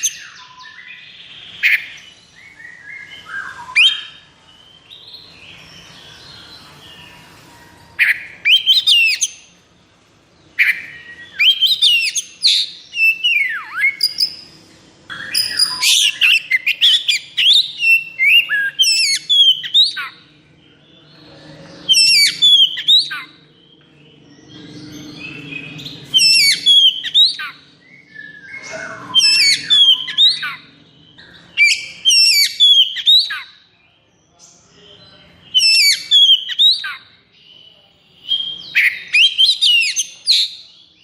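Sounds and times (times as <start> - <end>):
bird singing whistled phrases: 0.0 - 9.5, 10.6 - 14.5, 15.1 - 20.2, 21.9 - 23.4, 24.5 - 33.6, 35.5 - 40.7.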